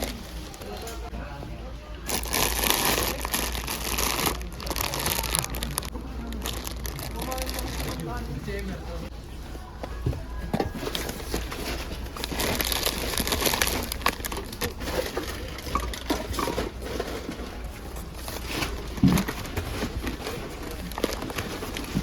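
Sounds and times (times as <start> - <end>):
packaging rustling and crinkling: 0.0 - 1.0, 2.1 - 8.7, 10.6 - 22.0.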